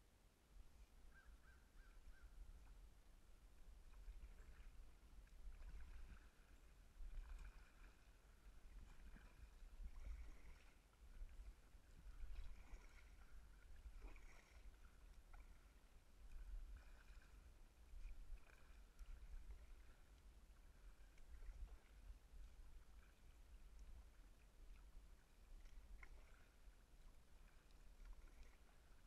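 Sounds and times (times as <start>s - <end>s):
paddle strokes swishing in water: 0.6s - 29.0s.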